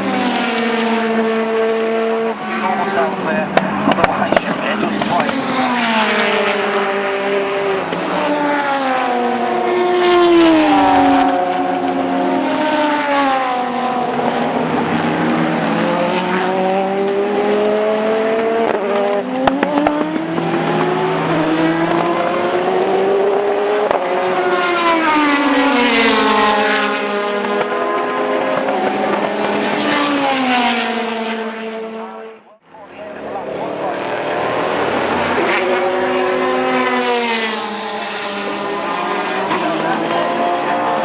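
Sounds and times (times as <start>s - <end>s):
race cars passing at speed: 0.0s - 41.0s.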